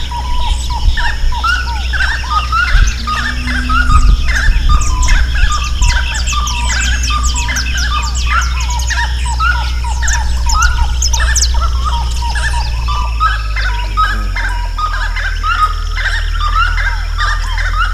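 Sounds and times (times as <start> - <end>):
birds singing: 0.0 - 17.9
steady low rumble: 0.0 - 17.9.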